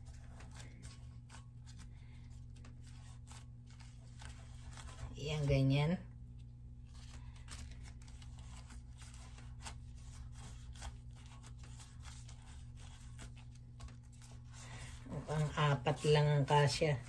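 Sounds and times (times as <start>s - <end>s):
plastic glove crinkling: 0.0s - 17.0s
steady low hum: 0.0s - 17.0s.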